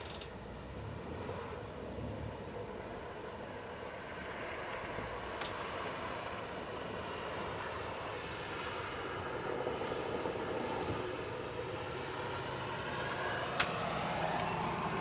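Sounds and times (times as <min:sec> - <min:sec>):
vehicle noise with low hum: 0:00.0 - 0:15.0.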